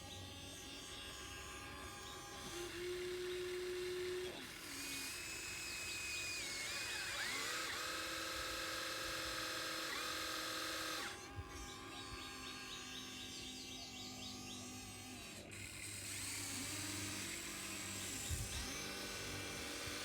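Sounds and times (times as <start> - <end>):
small electric motors whining: 0.0 - 20.0.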